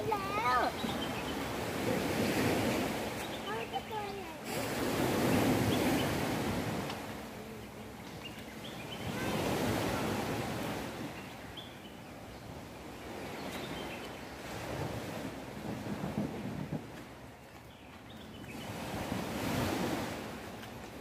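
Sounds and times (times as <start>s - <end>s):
sea waves washing on shore: 0.0s - 21.0s.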